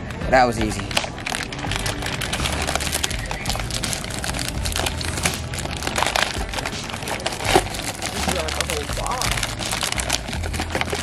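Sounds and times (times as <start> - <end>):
plastic wrappers crinkling: 0.5 - 11.0.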